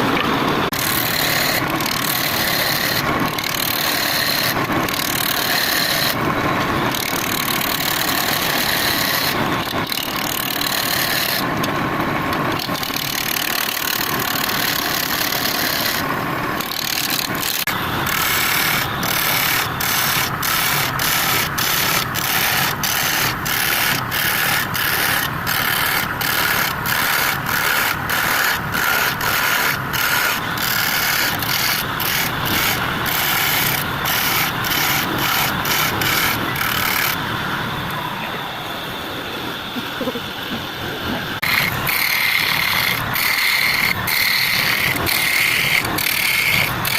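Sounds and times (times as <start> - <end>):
woodturning lathe running: 0.0 - 38.4, 40.0 - 46.9
rubbing against spinning wood: 0.6 - 11.5, 12.3 - 37.3, 41.0 - 46.9.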